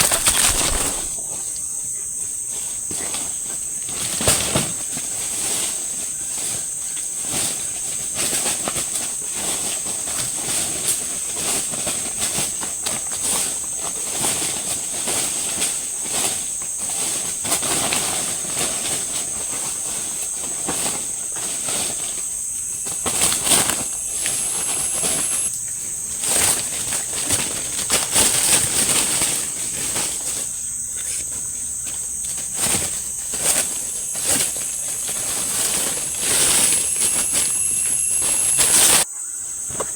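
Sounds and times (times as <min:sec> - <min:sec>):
insects chirping chorus: 0:00.0 - 0:39.9.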